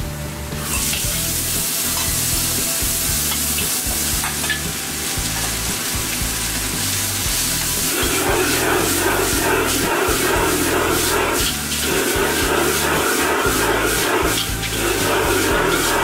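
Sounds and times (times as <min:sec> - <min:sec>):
noodles sizzling in a wok: 0:00.5 - 0:16.0.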